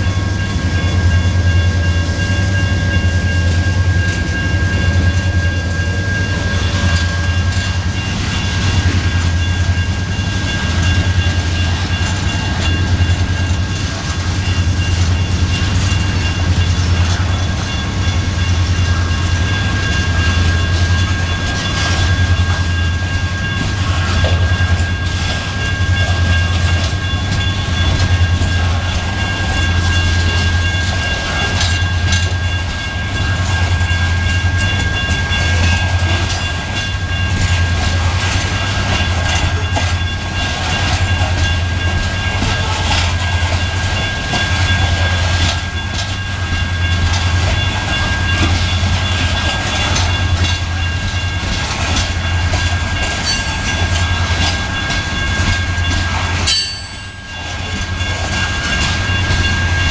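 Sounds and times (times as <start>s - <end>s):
freight cars rumbling: 0.0s - 59.9s
wheels clacking over rail joints: 2.3s - 59.9s.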